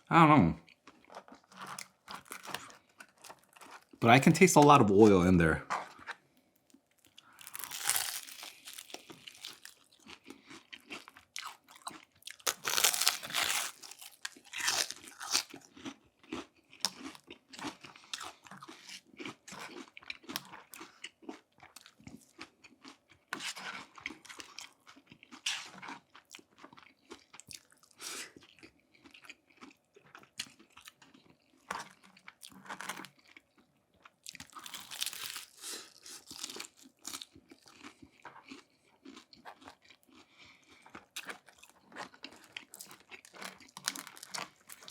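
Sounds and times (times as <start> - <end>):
crunchy food being chewed: 0.6 - 4.4, 5.6 - 44.9.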